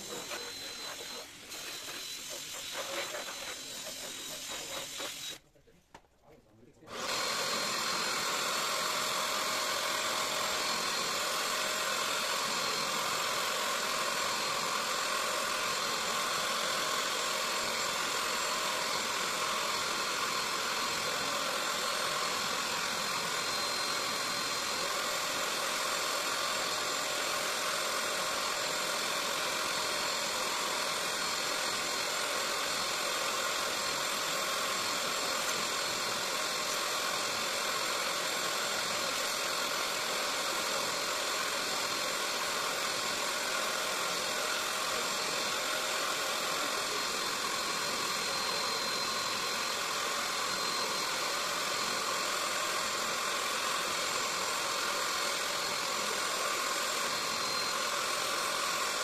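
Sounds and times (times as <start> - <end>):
carpet extractor suction motor: 0.0 - 5.4, 6.9 - 59.0.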